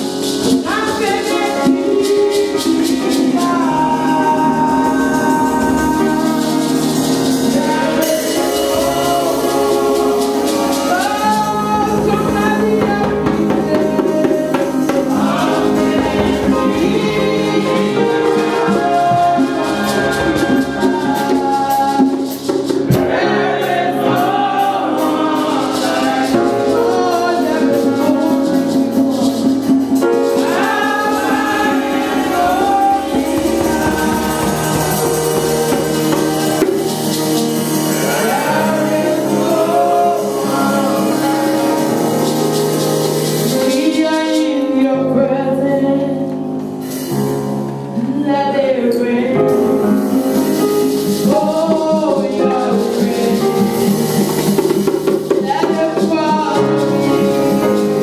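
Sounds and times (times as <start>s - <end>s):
group singing gospel song: 0.0s - 47.3s, 47.9s - 58.0s
instrumental backing: 0.0s - 58.0s.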